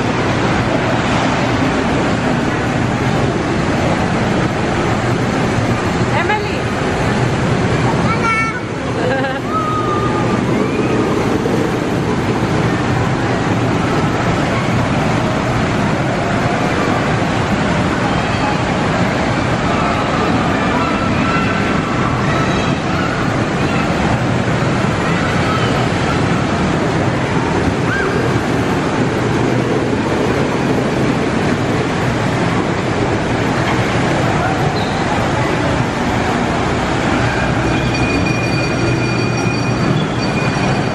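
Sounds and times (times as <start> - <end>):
kiddie coaster train rumbling: 0.0 - 40.9
noisy indoor fairground: 0.0 - 40.9.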